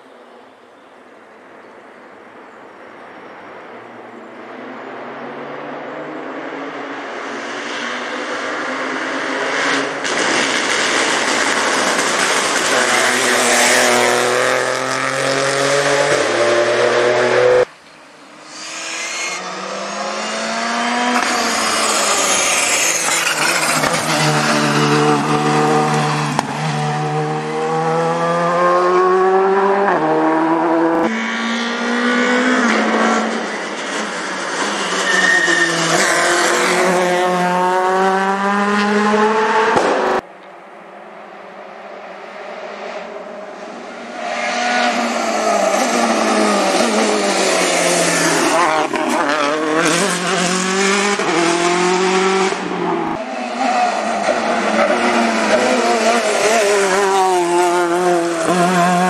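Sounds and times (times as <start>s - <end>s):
car approaching revving: 3.6s - 35.1s, 35.7s - 40.2s, 41.3s - 59.0s
rally car engine revving: 5.1s - 17.7s, 18.4s - 40.2s, 42.6s - 59.0s.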